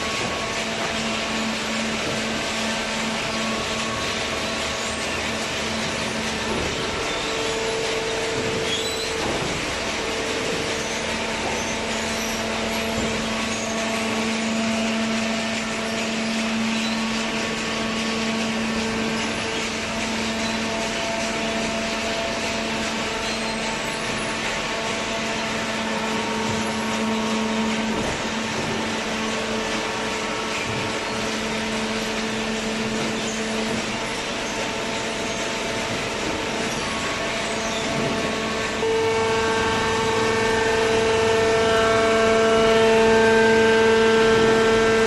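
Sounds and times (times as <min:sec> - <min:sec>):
motor and pump hum: 0:00.0 - 0:45.0.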